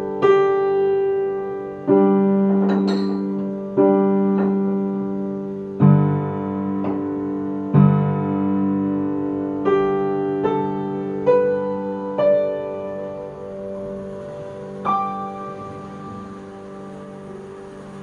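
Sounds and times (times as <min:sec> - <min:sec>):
slow piano: 0:00.0 - 0:18.0.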